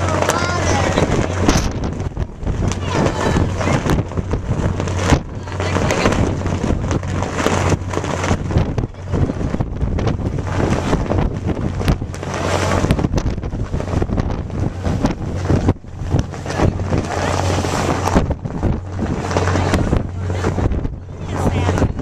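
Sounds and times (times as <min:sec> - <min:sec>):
ferry engine drone: 0:00.0 - 0:22.0
wind buffeting microphone: 0:00.0 - 0:22.0.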